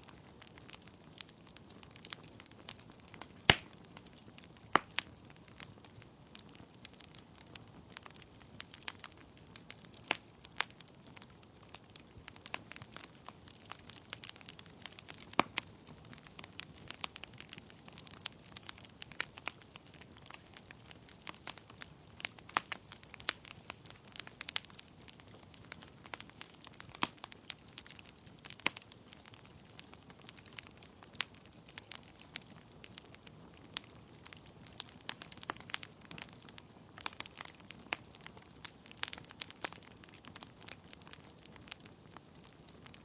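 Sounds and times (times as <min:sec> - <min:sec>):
logs crackling in fireplace: 0:00.0 - 0:43.0.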